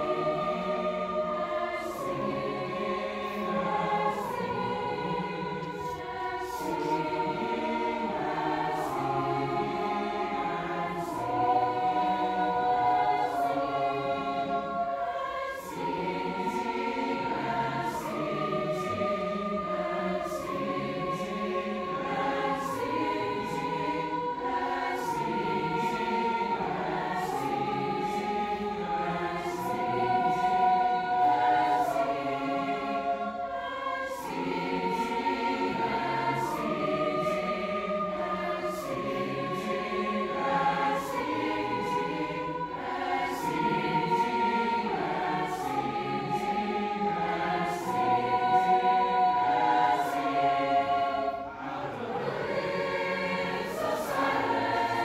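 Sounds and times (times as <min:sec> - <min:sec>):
choir singing in parts: 0:00.0 - 0:55.0.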